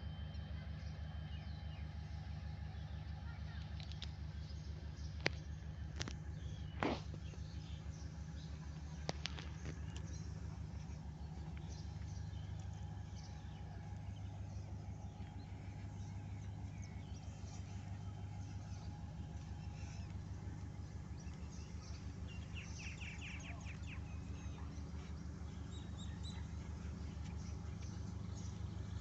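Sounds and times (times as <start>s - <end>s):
rapidly pulsing low hum: 0.0s - 29.0s.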